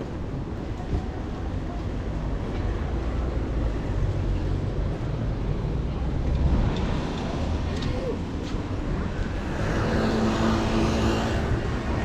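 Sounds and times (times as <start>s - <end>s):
vehicle rumble: 0.0s - 12.0s
wind noise on microphone: 0.0s - 12.0s.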